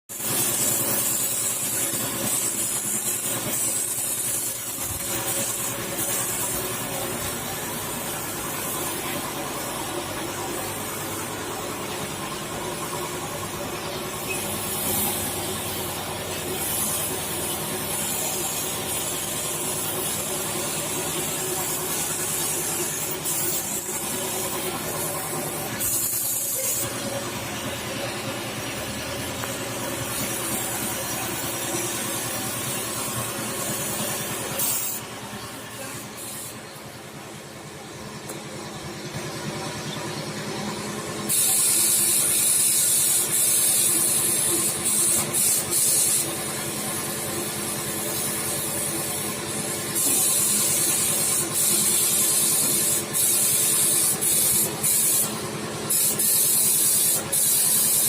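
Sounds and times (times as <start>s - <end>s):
spray gun hissing: 0.1s - 11.8s, 14.5s - 27.3s, 29.5s - 35.0s, 41.3s - 58.0s
steady motor hum: 0.1s - 58.0s.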